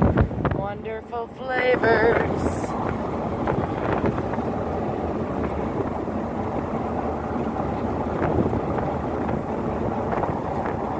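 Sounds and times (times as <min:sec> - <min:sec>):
wind buffeting microphone: 0:00.0 - 0:10.9
atv engine running: 0:01.6 - 0:10.9.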